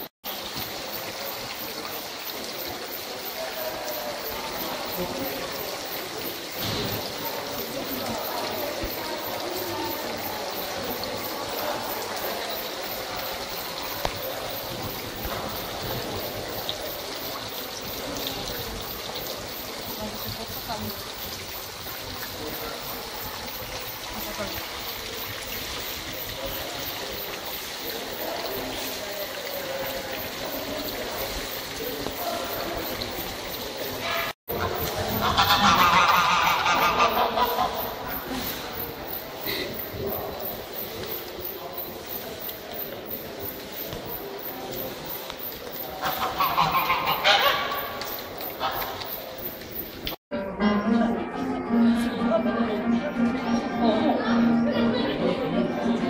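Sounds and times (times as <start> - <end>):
fountain water splashing: 0.0 - 50.2
water trickling into pond: 0.0 - 50.2.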